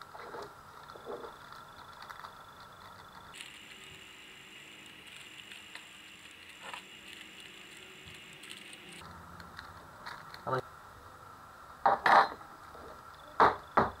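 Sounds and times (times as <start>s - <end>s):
high-pitched background whine: 0.0s - 14.0s.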